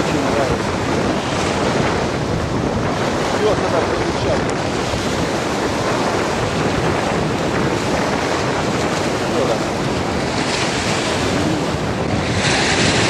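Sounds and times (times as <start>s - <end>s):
waves breaking against concrete bank: 0.0s - 13.0s
wind buffeting microphone: 0.0s - 13.0s.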